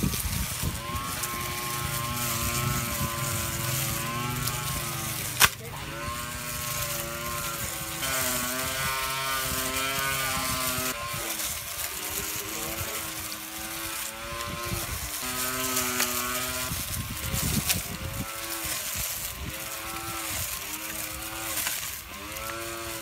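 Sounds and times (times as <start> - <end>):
motor whine: 0.0 - 23.0.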